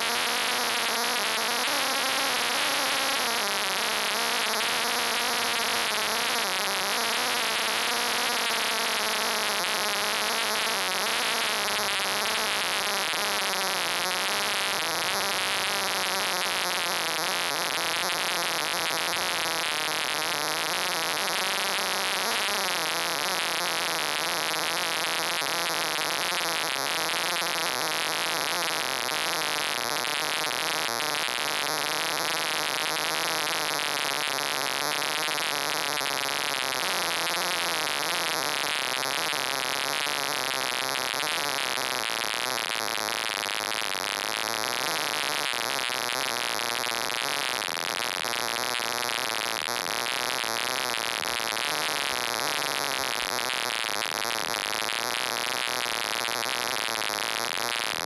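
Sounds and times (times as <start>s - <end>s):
static-like hiss: 0.0s - 58.0s.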